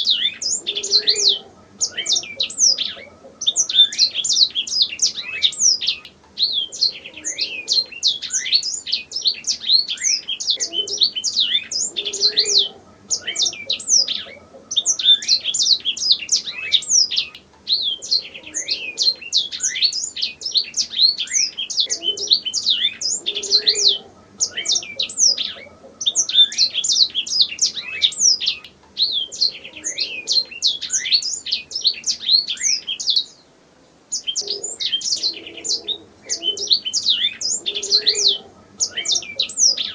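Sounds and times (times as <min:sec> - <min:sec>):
canary singing trills and chirps: 0:00.0 - 0:33.5, 0:34.1 - 0:39.9.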